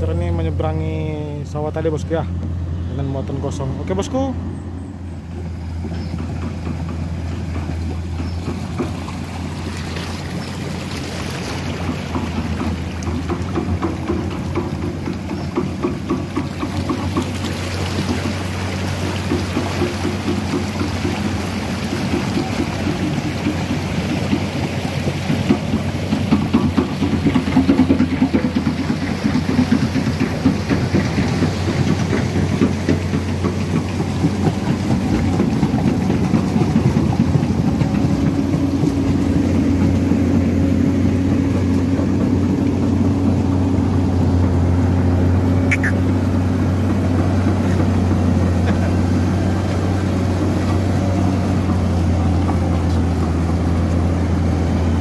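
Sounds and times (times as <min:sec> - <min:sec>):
excavator diesel engine under load: 0:00.0 - 0:55.0
tracks rattling through mud: 0:00.0 - 0:55.0.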